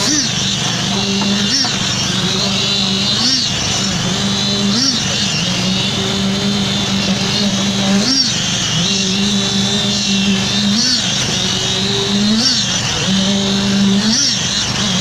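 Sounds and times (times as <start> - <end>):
concrete vibrator petrol engine: 0.0 - 15.0.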